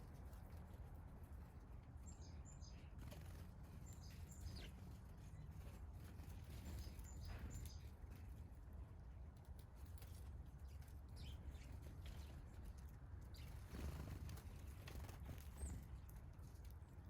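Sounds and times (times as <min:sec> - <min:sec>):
songbirds chirping faintly: 0:00.0 - 0:17.0.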